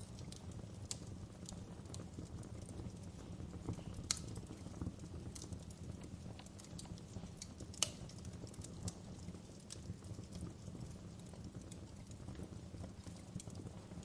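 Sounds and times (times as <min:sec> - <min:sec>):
fire flames rumbling: 0:00.0 - 0:14.0
wood fire crackling and popping: 0:00.0 - 0:14.0.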